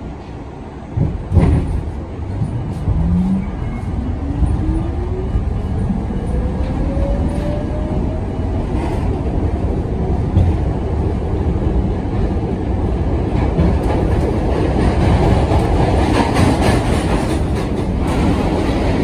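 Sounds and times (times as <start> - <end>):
subway car clunk: 0.0 - 19.0
wheels rumbling on rail: 0.0 - 19.0.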